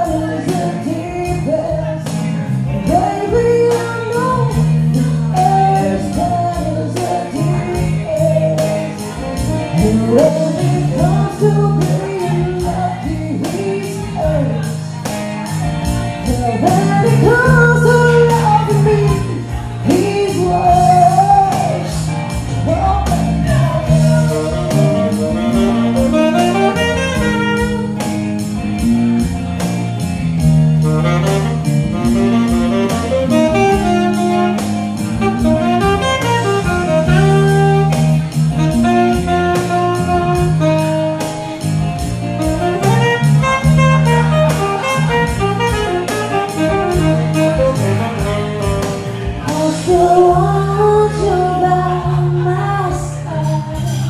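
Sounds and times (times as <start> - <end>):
acoustic guitar: 0.0 - 54.0
electric bass: 0.0 - 54.0.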